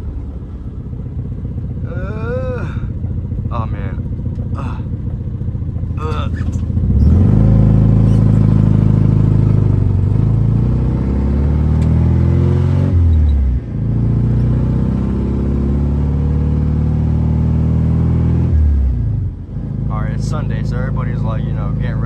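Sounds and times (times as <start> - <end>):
car engine and exhaust while driving: 0.0 - 22.0.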